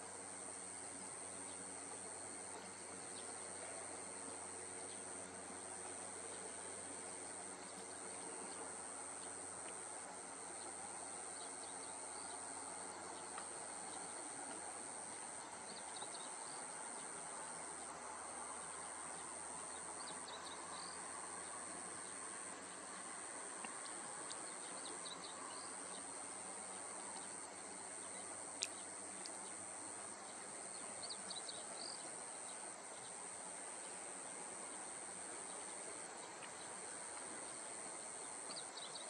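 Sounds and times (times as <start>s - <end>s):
high-pitched insect chorus: 0.0s - 39.0s.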